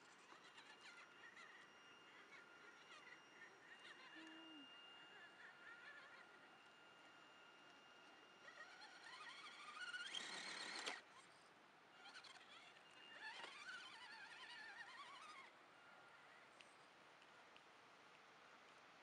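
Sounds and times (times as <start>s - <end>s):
electric motor and gearbox whine: 0.0s - 16.6s.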